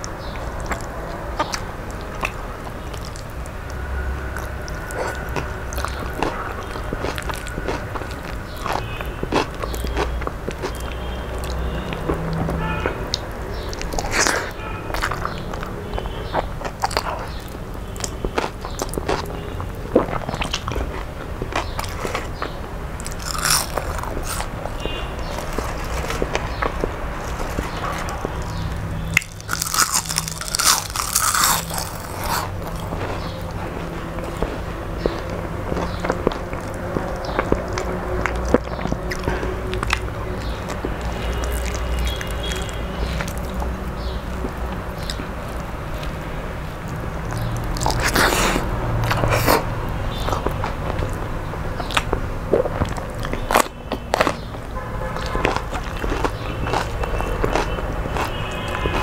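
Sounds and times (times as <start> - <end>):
chewing and smacking: 0.0 - 59.0
crunching of fried leaves: 0.0 - 59.0.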